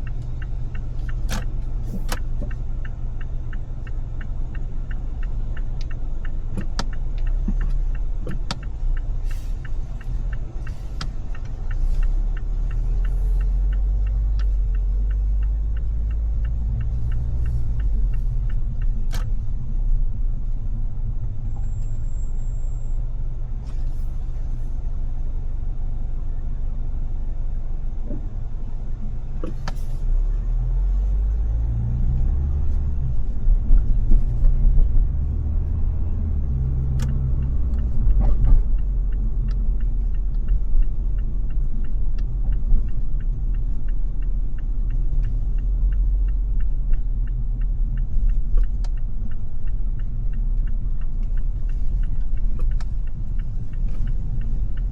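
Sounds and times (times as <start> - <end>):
faint evenly spaced ticking: 0.0 - 21.4, 31.3 - 54.9
car engine and road noise: 0.0 - 54.9.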